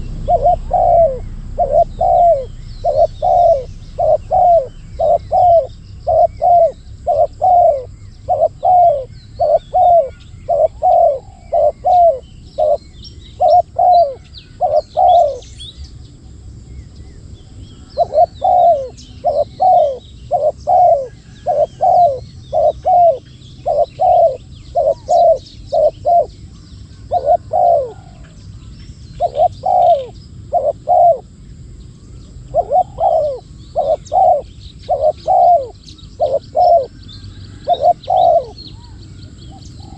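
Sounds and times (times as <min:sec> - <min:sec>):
doves cooing: 0:00.0 - 0:15.7, 0:17.8 - 0:31.4, 0:32.3 - 0:39.9
small birds chirping: 0:00.0 - 0:39.9.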